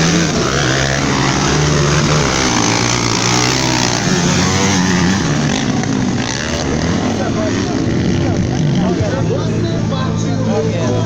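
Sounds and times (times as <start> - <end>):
motocross engines racing: 0.0 - 11.0.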